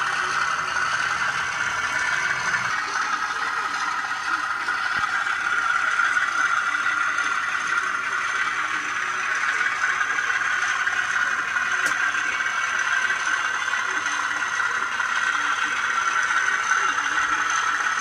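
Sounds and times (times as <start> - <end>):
model train whirring and rattling: 0.0 - 18.0.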